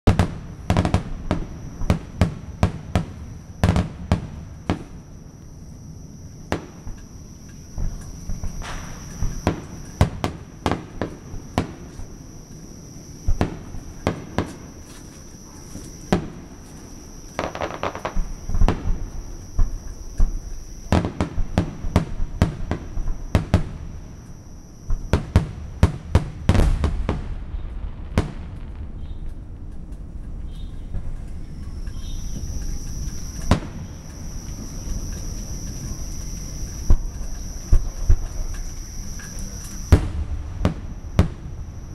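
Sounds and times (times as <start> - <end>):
fireworks bursting: 0.1 - 5.3, 6.3 - 41.9.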